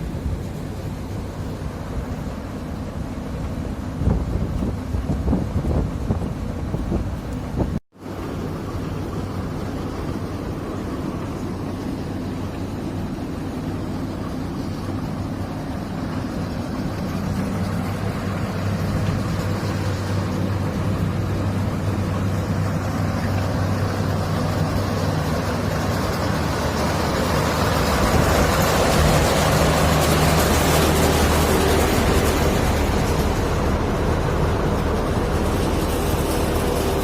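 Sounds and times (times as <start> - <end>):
drilling rig engine running: 0.0 - 37.0
machinery wash: 0.0 - 37.0.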